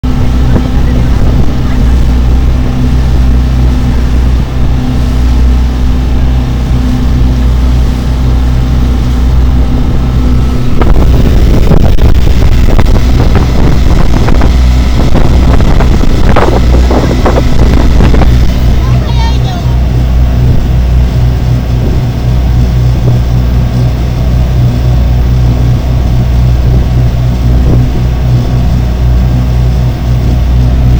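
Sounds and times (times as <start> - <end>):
boat engine droning: 0.0 - 30.9
water rushing along hull: 0.0 - 30.9
wind on microphone: 0.0 - 30.9.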